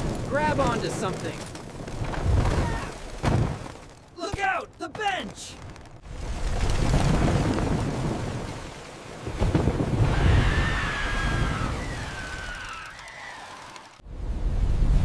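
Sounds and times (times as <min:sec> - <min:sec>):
heavy storm rumbling: 0:00.0 - 0:03.8, 0:05.4 - 0:15.0.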